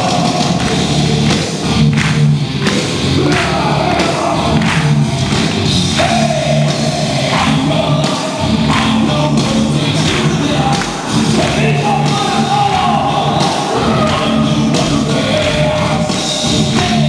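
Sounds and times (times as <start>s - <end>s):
music with singing over sound system: 0.0s - 17.0s.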